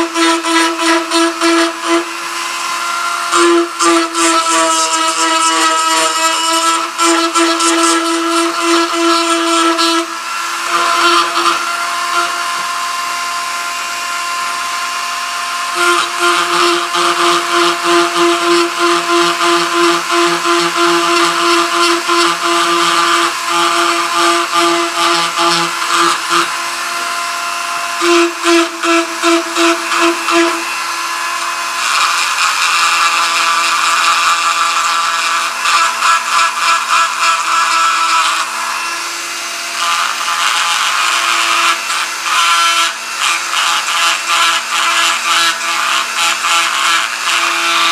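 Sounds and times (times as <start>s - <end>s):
rotary tool grinding metal: 0.0s - 47.9s.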